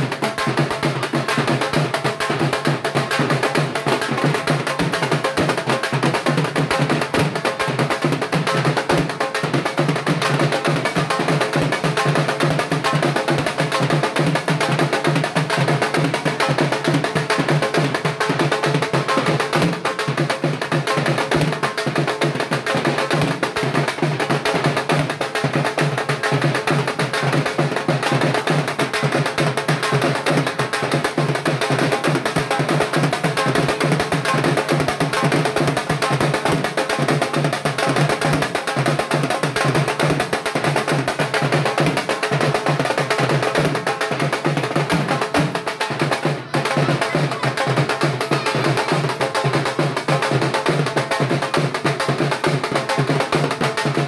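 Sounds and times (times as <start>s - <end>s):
barrel drum dance rhythm: 0.0s - 54.0s.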